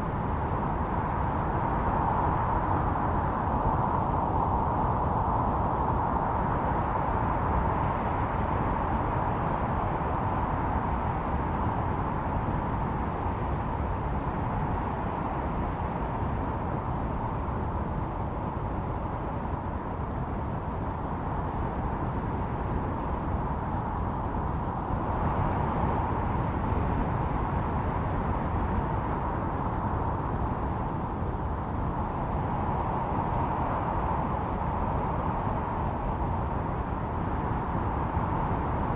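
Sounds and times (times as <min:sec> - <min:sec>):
howling snowstorm wind: 0:00.0 - 0:38.9.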